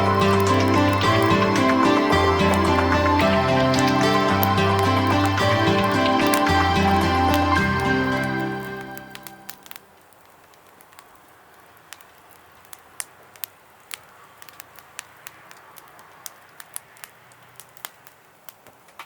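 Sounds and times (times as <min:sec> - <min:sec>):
small wood fire crackling: 0:00.0 - 0:19.0.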